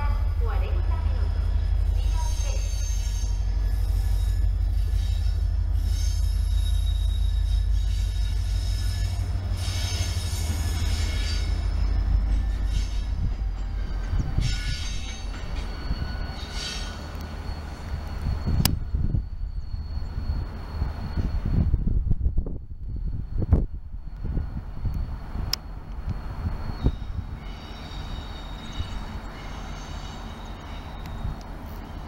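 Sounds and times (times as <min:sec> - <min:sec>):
diesel locomotive engine rumble: 0:00.0 - 0:32.0
high wheel squeal: 0:01.0 - 0:21.9, 0:24.3 - 0:32.0.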